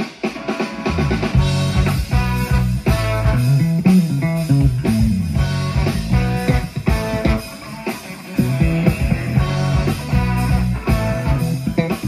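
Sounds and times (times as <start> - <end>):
bass guitar: 0.0 - 12.0
drums: 0.0 - 12.0
electric guitar: 0.0 - 12.0
trombone: 0.4 - 7.8, 9.2 - 12.0.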